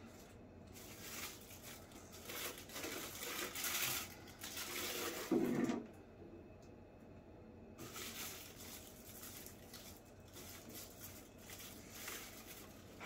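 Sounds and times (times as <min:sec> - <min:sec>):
packaging rustling and scraping: 0:00.0 - 0:05.8, 0:07.8 - 0:13.0.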